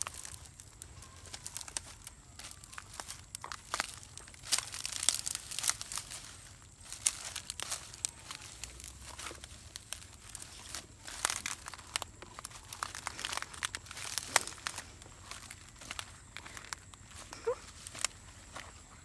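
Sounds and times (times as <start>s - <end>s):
dry plant material crackling: 0.0s - 19.0s.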